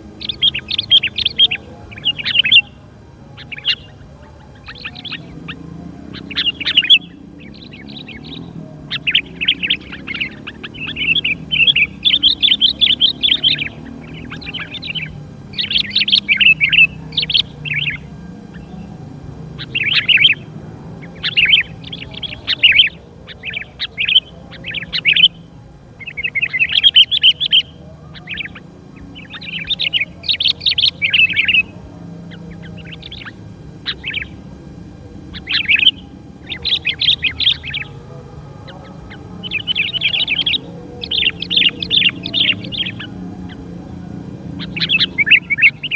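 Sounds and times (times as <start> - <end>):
birds chirping chatter: 0.0 - 45.9.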